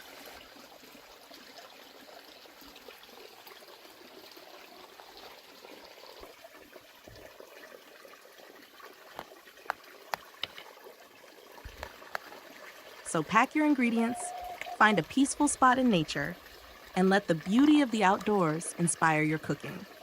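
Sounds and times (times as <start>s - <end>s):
stream trickling over stones: 0.0s - 20.0s.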